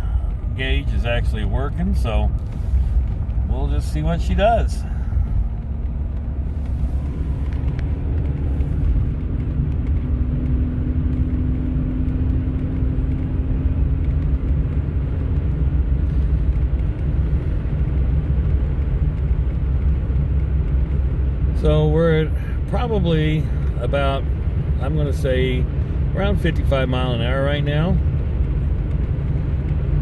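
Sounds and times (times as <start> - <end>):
engine hum: 0.0 - 30.0
road and engine rumble: 0.0 - 30.0.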